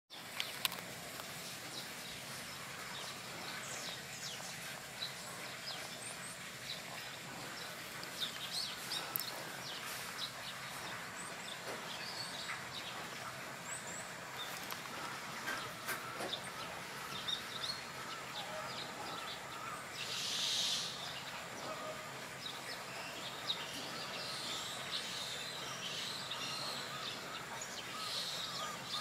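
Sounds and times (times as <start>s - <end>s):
background hiss: 0.1s - 29.0s
small birds chirping: 0.1s - 29.0s.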